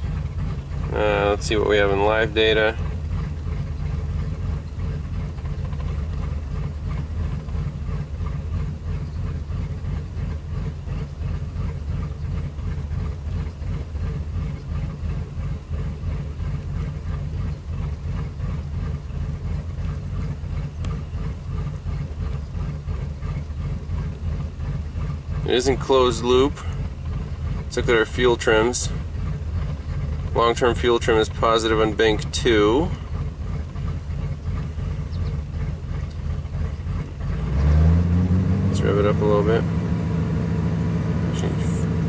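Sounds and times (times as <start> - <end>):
car engine idling roughly: 0.0 - 37.9, 38.7 - 42.0.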